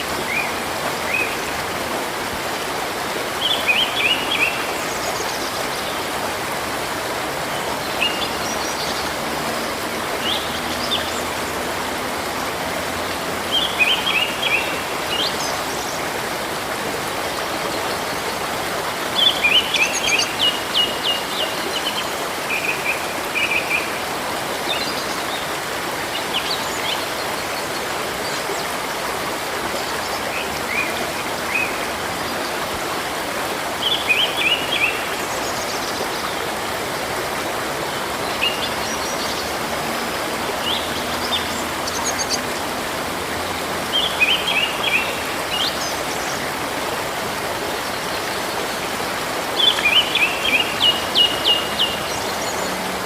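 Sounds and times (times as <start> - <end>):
river water running: 0.0 - 53.0.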